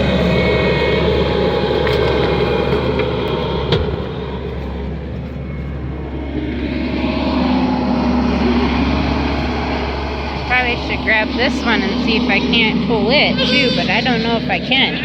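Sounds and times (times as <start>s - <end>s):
farm machine engine running: 0.0s - 15.0s.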